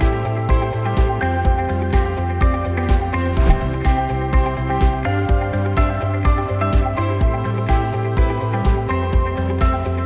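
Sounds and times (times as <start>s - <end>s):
music with a steady beat: 0.0s - 10.0s.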